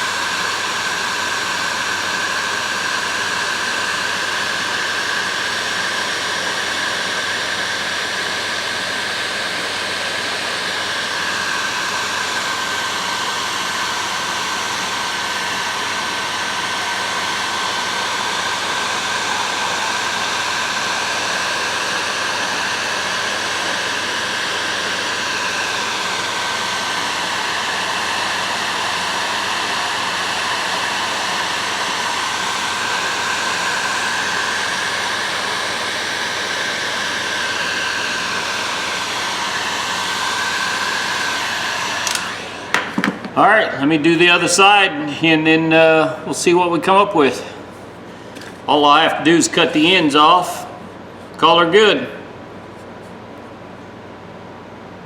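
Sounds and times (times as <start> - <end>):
heat gun blowing: 0.0 - 53.3.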